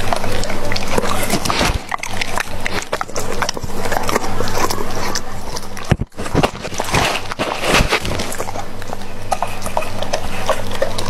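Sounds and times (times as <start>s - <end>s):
dog chewing and licking: 0.0s - 11.0s.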